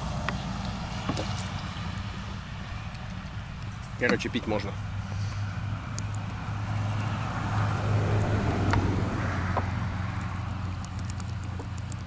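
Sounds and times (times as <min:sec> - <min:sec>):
road vehicle passing by: 0:00.0 - 0:12.0
steady low rumble: 0:00.0 - 0:12.0.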